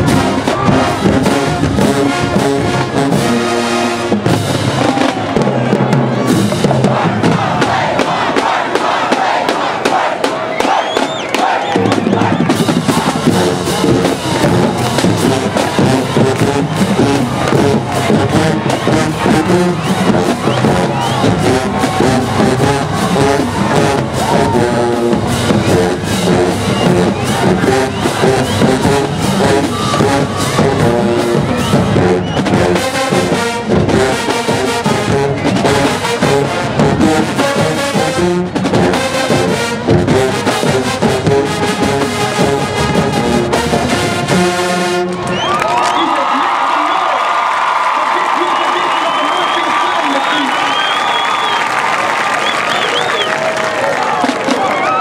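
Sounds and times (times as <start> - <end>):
brass section playing: 0.0 - 55.0
drumline steady beat: 0.0 - 55.0.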